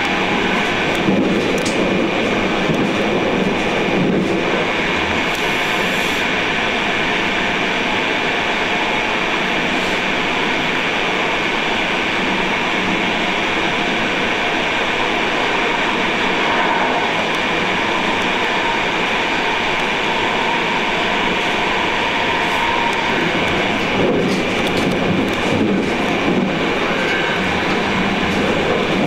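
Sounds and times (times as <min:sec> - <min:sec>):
train wheels running on rail: 0:00.0 - 0:29.0.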